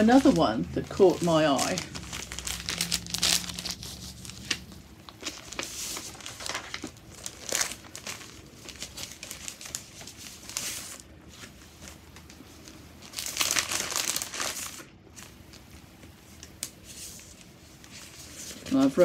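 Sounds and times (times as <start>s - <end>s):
plastic and paper crinkling: 0.0s - 19.0s.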